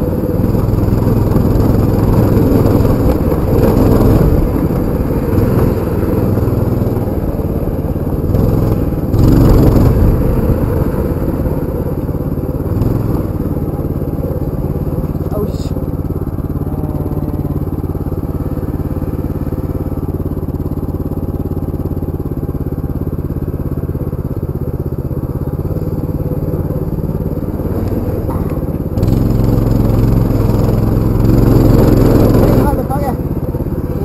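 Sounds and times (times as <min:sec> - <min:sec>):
minibike engine running: 0:00.0 - 0:34.0.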